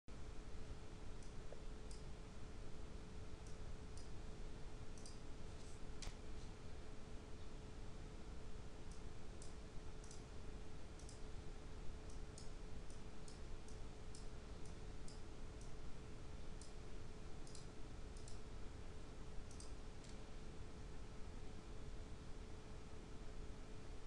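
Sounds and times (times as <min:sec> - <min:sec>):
faint electrical hum and hiss: 0:00.1 - 0:24.0.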